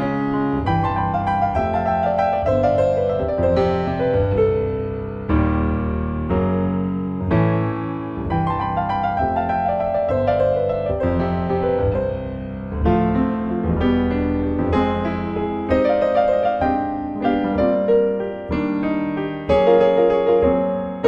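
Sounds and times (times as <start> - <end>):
steady bass line: 0.0 - 19.6
piano music: 0.0 - 21.0.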